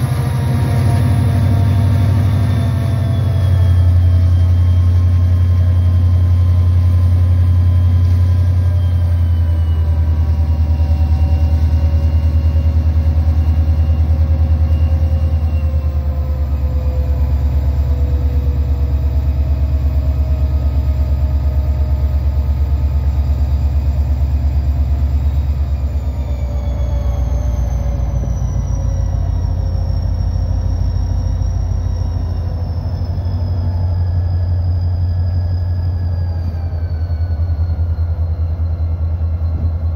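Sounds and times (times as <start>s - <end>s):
diesel engine pulsing drone: 0.0s - 39.9s
high whining tones: 0.0s - 39.9s.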